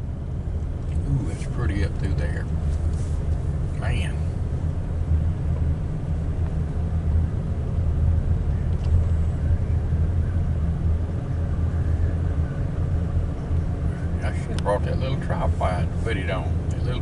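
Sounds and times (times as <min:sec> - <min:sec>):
car interior road noise: 0:00.0 - 0:17.0.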